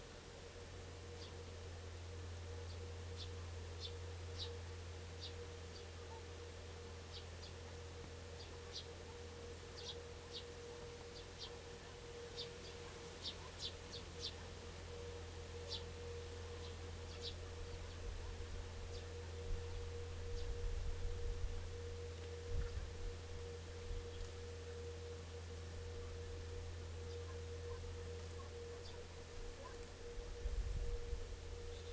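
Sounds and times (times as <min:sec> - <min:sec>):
constant faint tone: 0:00.0 - 0:31.9
steady low hum: 0:00.0 - 0:31.9.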